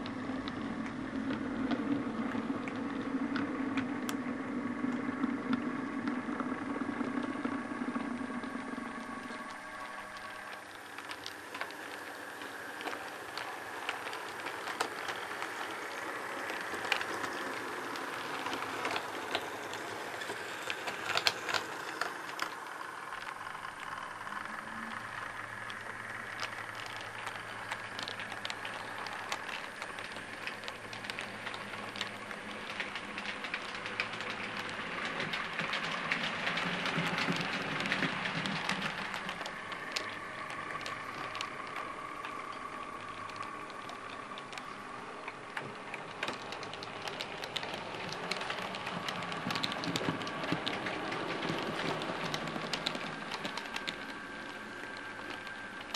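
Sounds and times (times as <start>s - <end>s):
model train wheels clicking: 0.0s - 55.9s.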